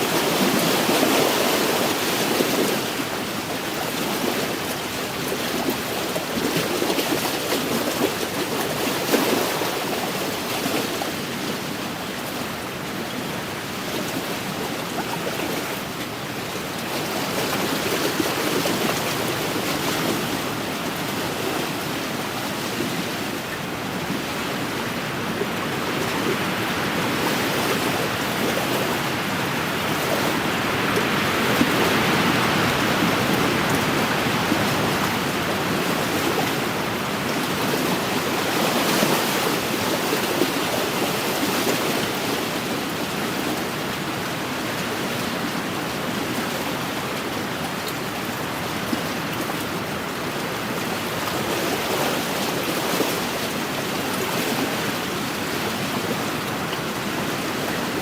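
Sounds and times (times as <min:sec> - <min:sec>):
waves washing against shore: 0:00.0 - 0:58.0.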